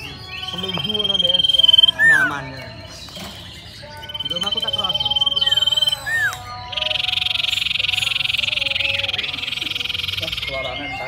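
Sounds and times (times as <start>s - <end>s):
bird singing trills and whistle: 0.0s - 11.0s.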